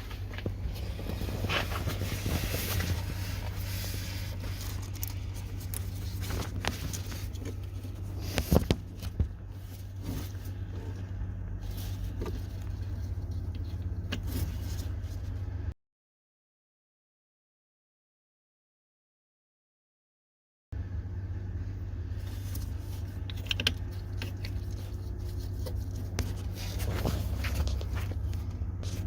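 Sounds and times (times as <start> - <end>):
van engine idling: 0.0 - 15.7, 20.8 - 29.0.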